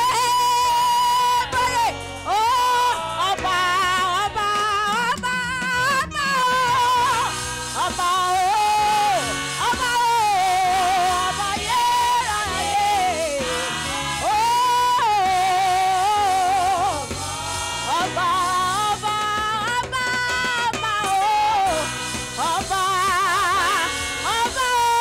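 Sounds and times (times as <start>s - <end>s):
gospel choir singing: 0.0s - 25.0s
lead singer holding long notes: 0.0s - 25.0s.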